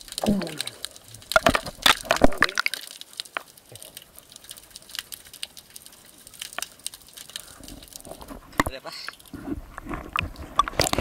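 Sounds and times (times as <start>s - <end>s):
underwater clicks and crackles: 0.0s - 11.0s.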